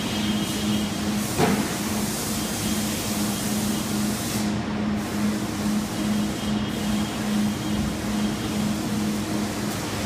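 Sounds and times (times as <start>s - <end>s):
pulsing mechanical hum and hiss: 0.0s - 10.0s.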